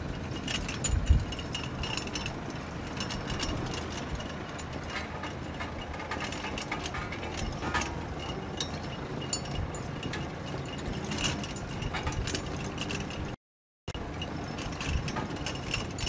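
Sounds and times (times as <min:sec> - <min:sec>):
mechanical clicking and rattling: 0:00.0 - 0:16.0.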